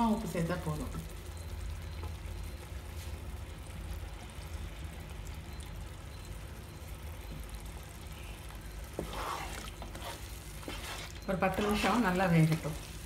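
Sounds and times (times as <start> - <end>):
food sizzling and bubbling in pot: 0.0 - 13.0.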